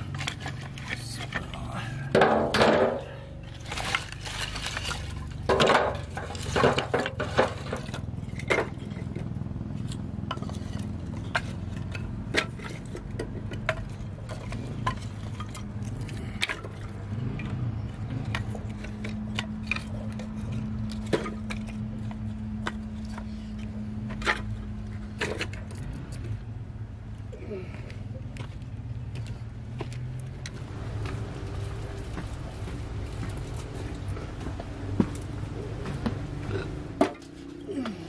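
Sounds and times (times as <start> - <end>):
low hum: 7.0 - 38.0.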